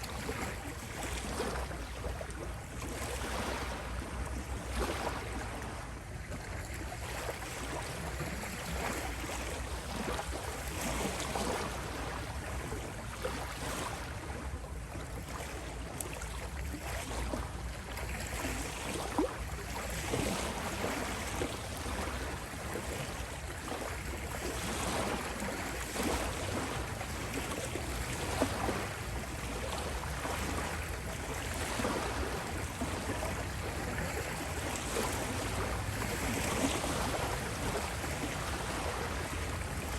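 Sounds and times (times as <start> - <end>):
ocean waves on a beach: 0.0 - 39.9.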